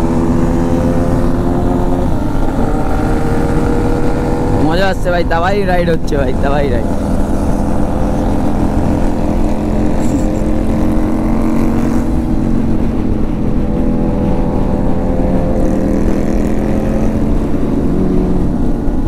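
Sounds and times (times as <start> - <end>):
motorcycle engine cruising: 0.0 - 19.0
wind rushing over microphone: 0.0 - 19.0.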